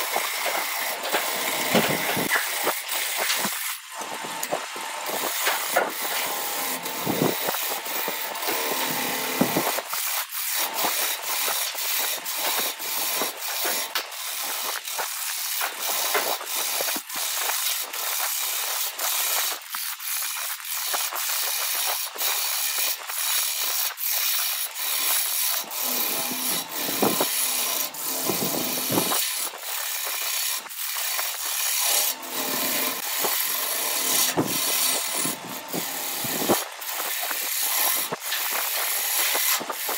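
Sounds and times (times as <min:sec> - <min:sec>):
chisel scraping wood on a lathe: 0:00.0 - 0:39.9.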